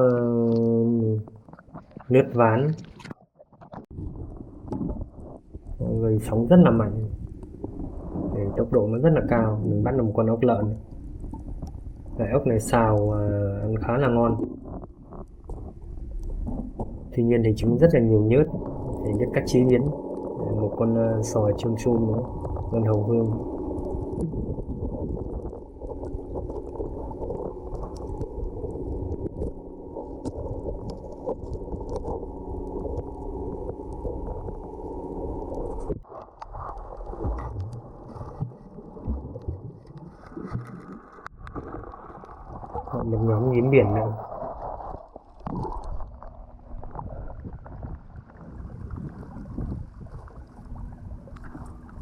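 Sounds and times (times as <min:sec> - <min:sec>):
small scattered clicks and crackles: 0:00.0 - 0:06.0, 0:07.0 - 0:08.6, 0:10.6 - 0:52.0
muffled underwater rumble: 0:00.0 - 0:52.0
steady low hum: 0:04.0 - 0:40.4, 0:42.8 - 0:52.0.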